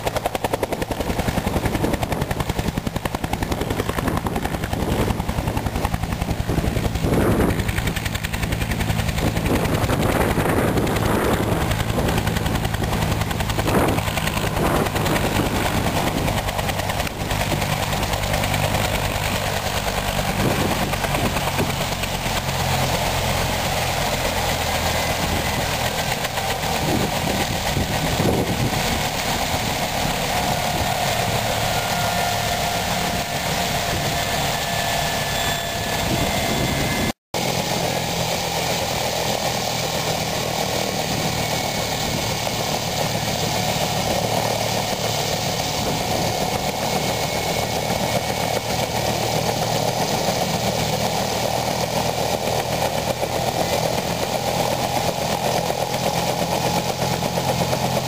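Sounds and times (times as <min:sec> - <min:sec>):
helicopter rotor drone: 0:00.0 - 0:58.0
helicopter turbine whine: 0:00.0 - 0:58.0.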